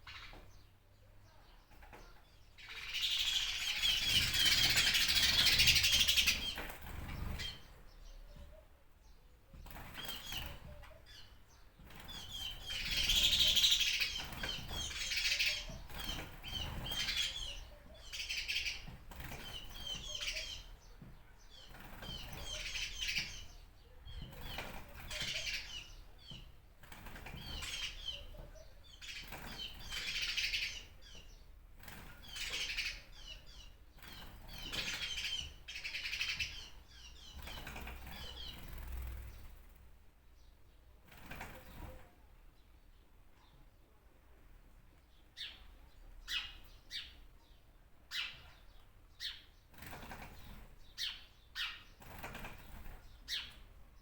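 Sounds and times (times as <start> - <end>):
birds twittering: 0.0 - 43.8, 45.0 - 54.0.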